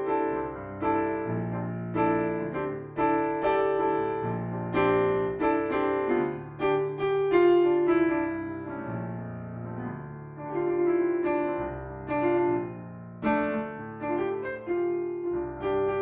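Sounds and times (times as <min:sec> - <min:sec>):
solo blues piano chords: 0:00.0 - 0:16.0.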